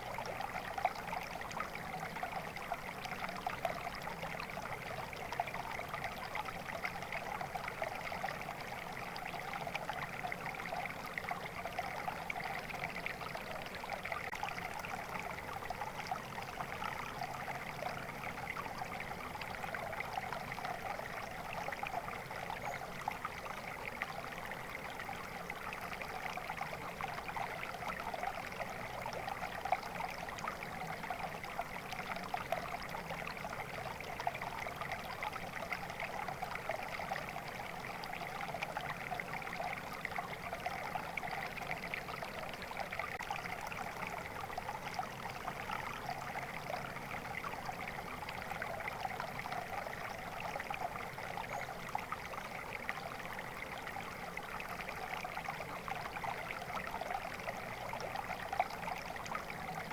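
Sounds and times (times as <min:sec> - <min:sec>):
shallow stream babbling over stones: 0:00.0 - 0:59.9.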